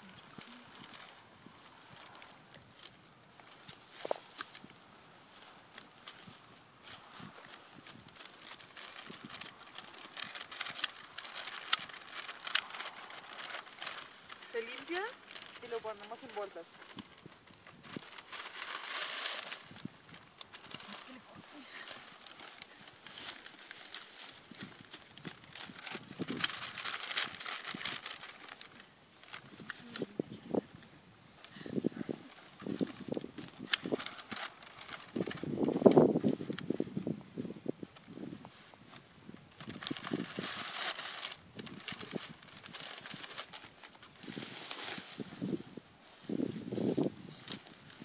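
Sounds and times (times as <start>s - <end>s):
dry grass crackling rustles: 0.0s - 48.0s.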